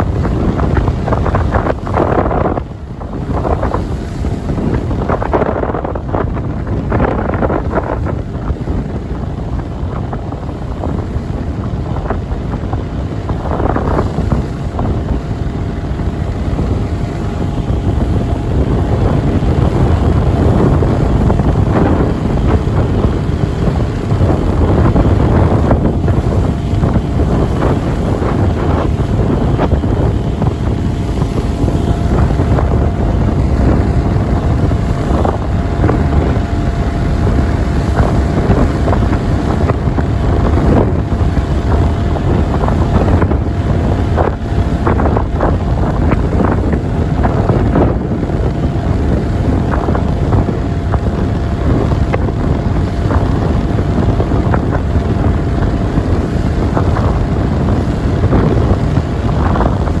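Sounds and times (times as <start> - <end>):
ship engines rumbling: 0.0 - 60.0
wind buffeting microphone: 0.0 - 60.0.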